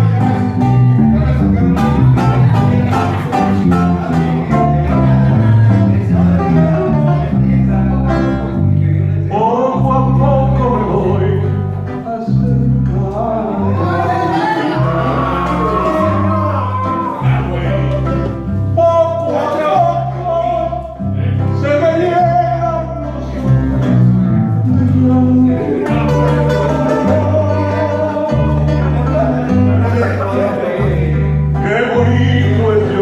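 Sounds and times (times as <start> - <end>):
bass line: 0.0 - 33.0
person singing: 0.0 - 33.0
plucked guitar: 0.0 - 33.0.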